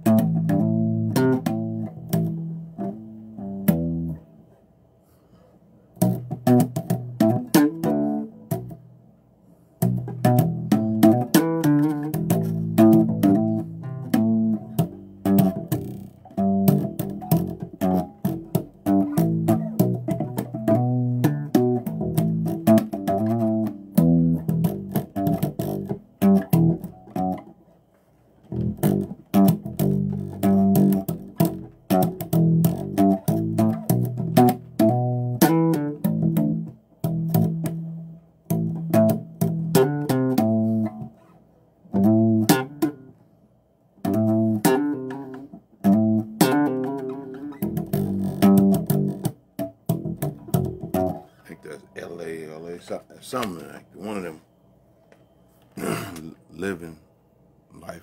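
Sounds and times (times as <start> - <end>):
electric bass guitar plucked: 0.0 - 4.3, 6.0 - 8.9, 9.8 - 27.6, 28.4 - 41.3, 41.9 - 43.2, 44.0 - 54.2.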